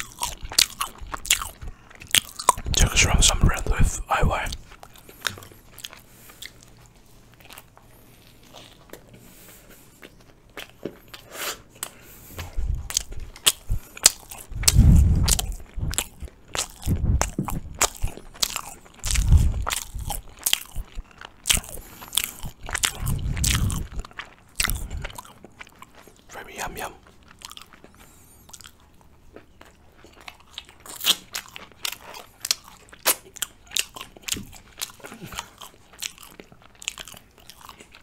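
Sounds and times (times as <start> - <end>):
chewing crunchy flatbread: 0.0 - 38.0.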